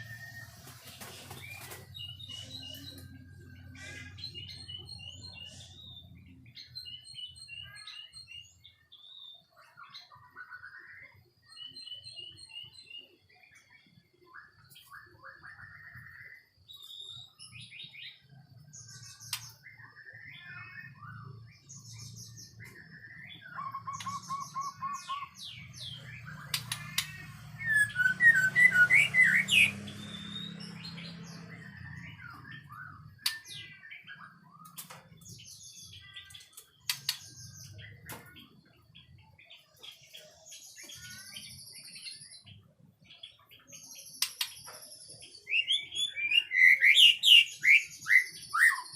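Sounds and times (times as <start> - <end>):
songbird whistles and trills: 0.0 - 48.9.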